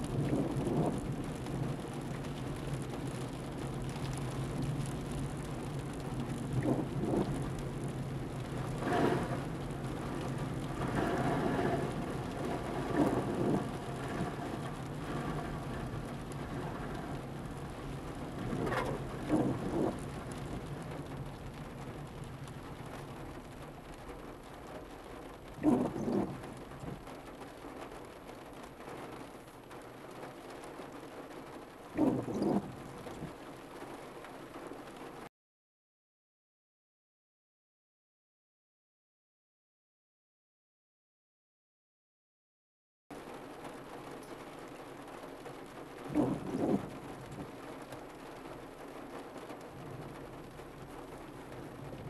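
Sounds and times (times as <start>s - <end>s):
rain falling on a car: 0.0s - 35.3s, 43.1s - 52.0s.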